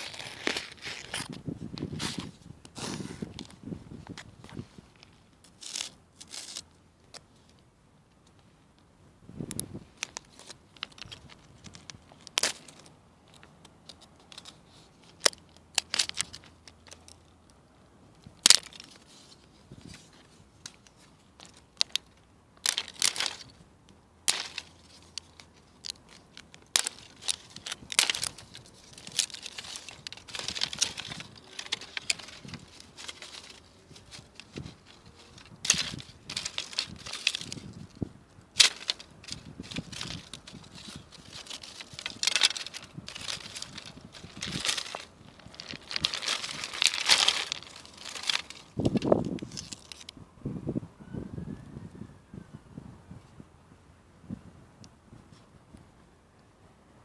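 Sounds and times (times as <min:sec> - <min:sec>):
dry stems rustling and crackling: 0:00.0 - 0:50.2
gravel stones clicking: 0:00.0 - 0:50.2.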